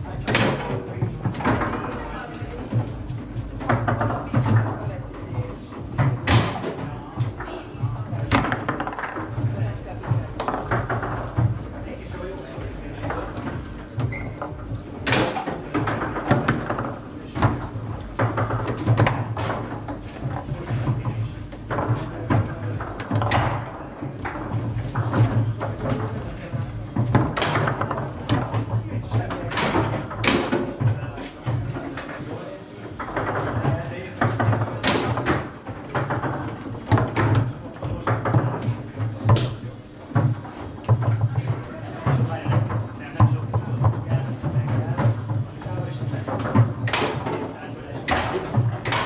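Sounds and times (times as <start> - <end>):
foosball ball knocks and clacks: 0.1 - 49.0.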